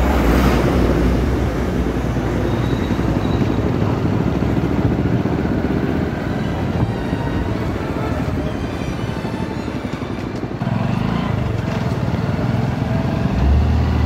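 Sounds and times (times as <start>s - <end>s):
motorcycle engine: 0.0s - 14.0s
road noise: 0.0s - 14.0s.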